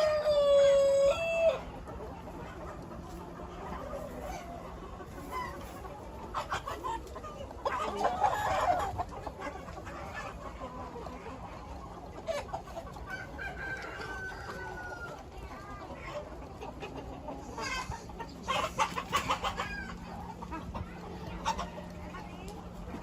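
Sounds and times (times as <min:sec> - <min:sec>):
chickens clucking and calling: 0:00.0 - 0:23.0.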